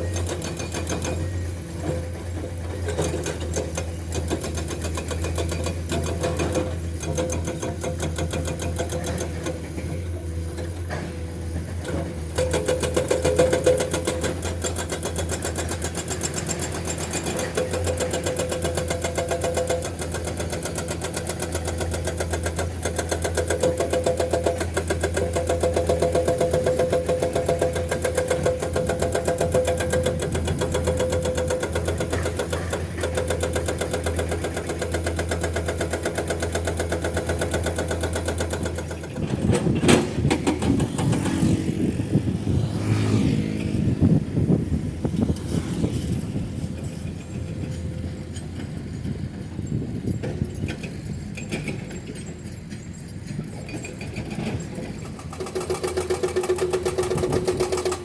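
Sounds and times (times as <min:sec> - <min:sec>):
hydraulic breaker hammering rock: 0:00.0 - 0:42.0, 0:45.6 - 0:58.0
excavator diesel engine: 0:00.0 - 0:58.0.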